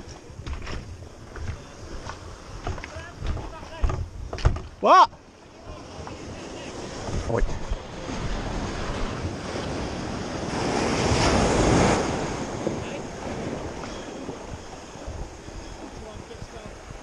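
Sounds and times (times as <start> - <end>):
wind buffeting microphone: 0.0 - 4.8, 5.6 - 17.0
sea surf washing in: 0.0 - 17.0.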